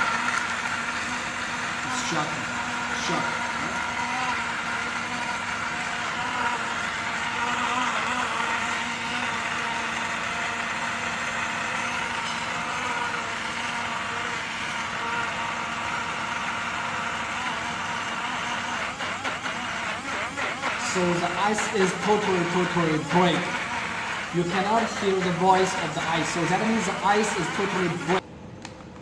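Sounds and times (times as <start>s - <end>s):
portable blender motor running: 0.0s - 28.2s.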